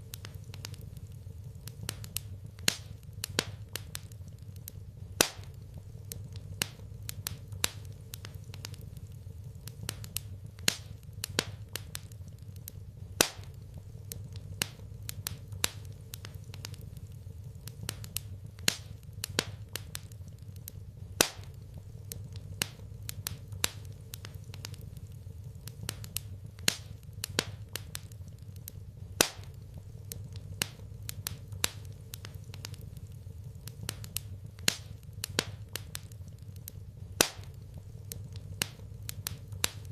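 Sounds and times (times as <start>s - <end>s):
fireplace crackling and popping: 0.0s - 39.9s.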